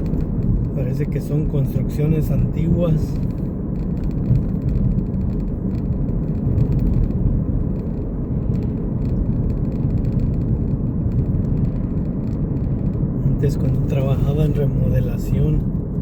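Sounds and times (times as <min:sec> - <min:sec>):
car engine and tyres rumbling: 0:00.0 - 0:16.0
faint light rattles: 0:00.0 - 0:16.0.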